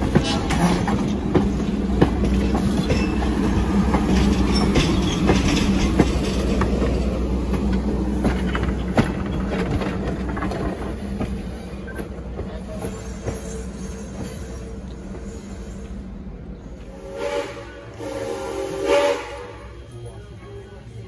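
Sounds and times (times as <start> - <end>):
train wheels clicking over rail joints: 0.0 - 17.0
train rolling rumble: 0.0 - 21.0.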